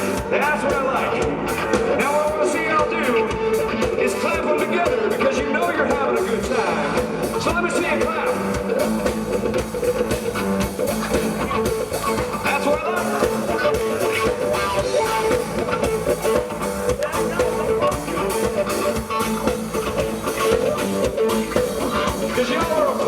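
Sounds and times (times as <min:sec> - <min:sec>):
drum kit steady beat: 0:00.0 - 0:23.0
electric guitar strumming: 0:00.0 - 0:23.0.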